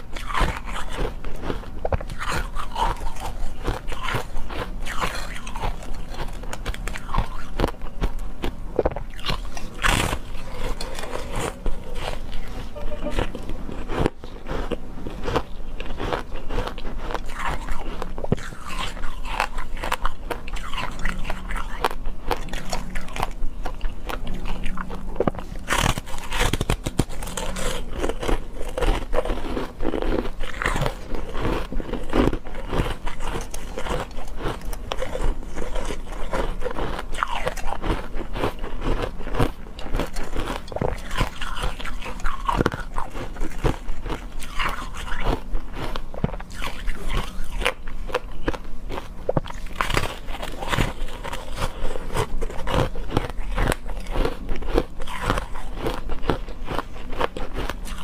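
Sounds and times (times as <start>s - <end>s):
crunching of hard food: 0.0s - 58.0s.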